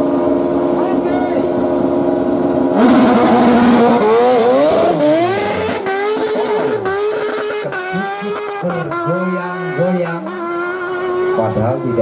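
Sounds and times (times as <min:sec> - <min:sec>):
motorcycle accelerating with upshifts: 0:00.0 - 0:12.0.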